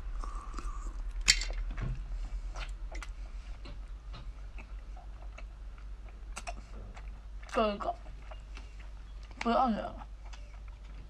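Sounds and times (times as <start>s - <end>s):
person chewing wetly: 0.0s - 11.0s.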